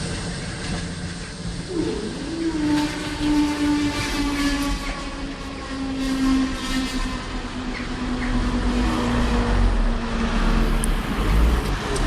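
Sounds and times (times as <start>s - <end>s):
diesel train droning and rumbling: 0.0s - 12.0s.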